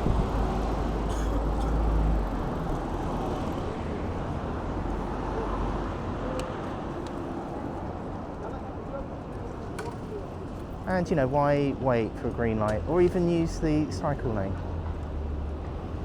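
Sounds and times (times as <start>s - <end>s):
low traffic rumble: 0.0s - 16.0s
passing vehicles: 0.0s - 16.0s.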